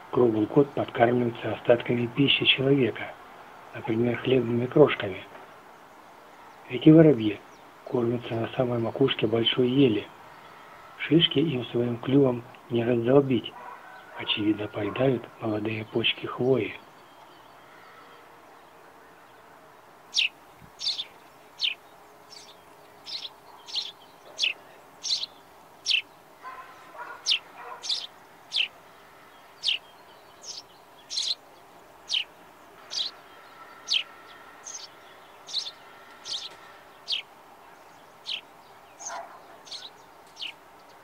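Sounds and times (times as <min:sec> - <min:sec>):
sparrows chirping: 0:00.0 - 0:41.0.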